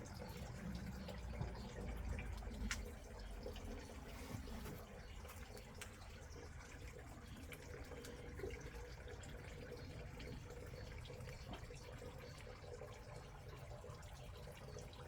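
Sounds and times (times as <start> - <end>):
running water: 0.0 - 15.0
small clicks and drips: 0.0 - 15.0.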